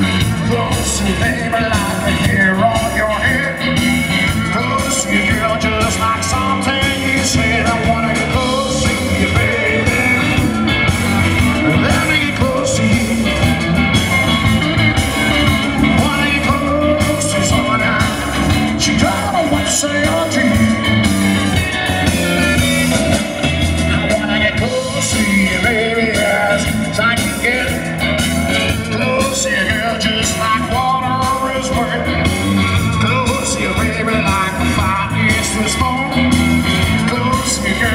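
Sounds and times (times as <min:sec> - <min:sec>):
drum kit: 0:00.0 - 0:37.9
electric bass: 0:00.0 - 0:37.9
electric guitars: 0:00.0 - 0:37.9.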